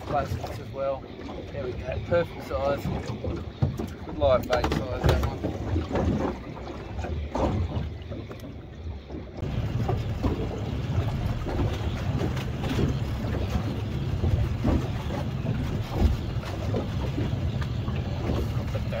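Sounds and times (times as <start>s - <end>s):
steady low rumble: 0.0s - 19.0s
water slapping boat: 0.0s - 19.0s.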